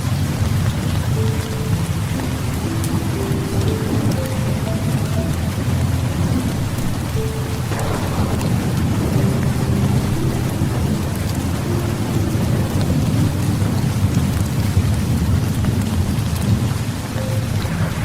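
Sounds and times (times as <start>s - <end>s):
heavy rain falling: 0.0s - 18.0s
thunder rumbling: 0.0s - 18.0s.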